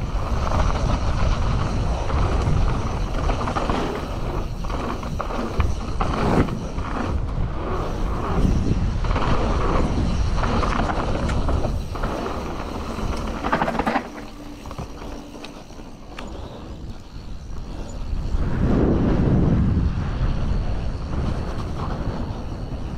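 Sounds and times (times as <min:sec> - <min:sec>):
mountain bike rattling on dirt trail: 0:00.0 - 0:22.9
wind buffeting microphone: 0:00.0 - 0:22.9.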